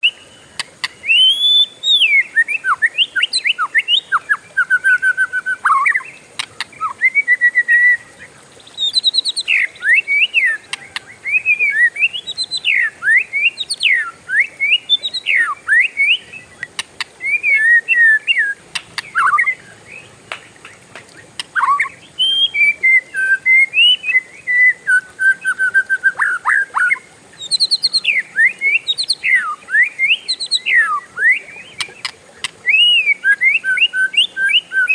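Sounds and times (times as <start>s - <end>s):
songbird singing whistled song: 0.0s - 34.9s.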